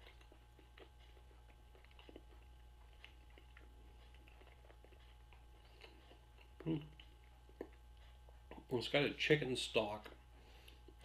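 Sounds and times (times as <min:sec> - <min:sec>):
person chewing: 0:00.0 - 0:09.0, 0:10.0 - 0:11.0
low steady hum: 0:00.0 - 0:11.0.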